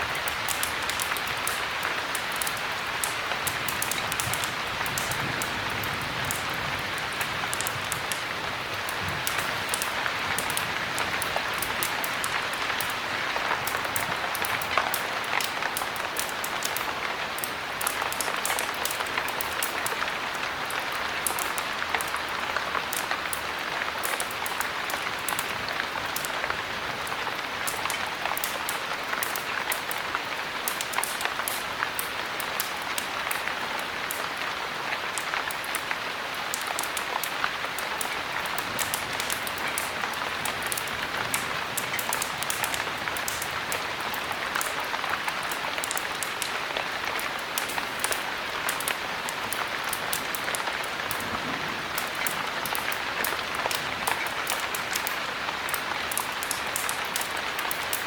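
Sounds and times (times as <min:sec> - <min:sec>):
sharp crackles: 0:00.0 - 0:34.4, 0:35.0 - 0:58.0
heavy rain: 0:00.0 - 0:58.0.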